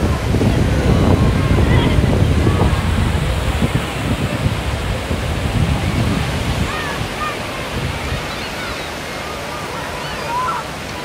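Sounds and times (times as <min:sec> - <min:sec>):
waves breaking on beach: 0:00.0 - 0:11.0
wind on microphone: 0:00.0 - 0:11.0.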